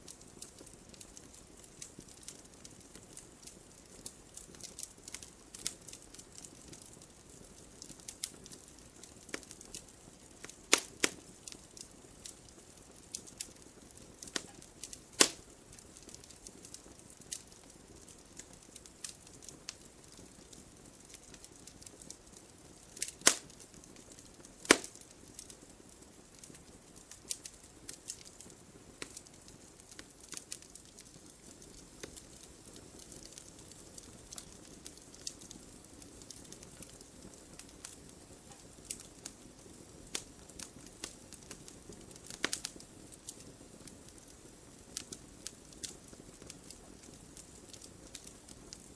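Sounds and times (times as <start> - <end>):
faint rush of fire: 0.0 - 48.9
logs crackling in fireplace: 0.0 - 48.9
loud sharp pops from fire: 0.0 - 48.9.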